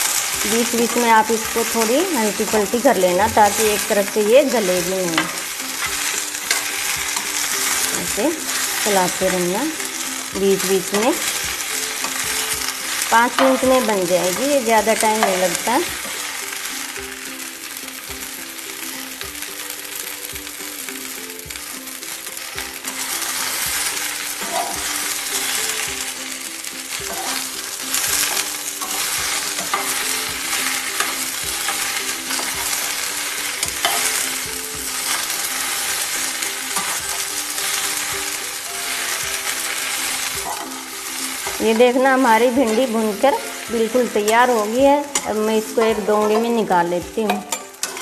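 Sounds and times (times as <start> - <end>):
spatula scraping pan: 0.0 - 17.7, 21.6 - 48.0
okra sizzling in oil: 0.0 - 48.0.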